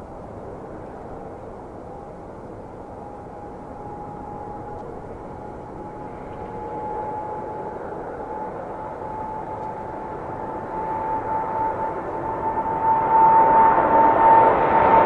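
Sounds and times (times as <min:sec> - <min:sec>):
jet engines at takeoff thrust: 0:00.0 - 0:15.0.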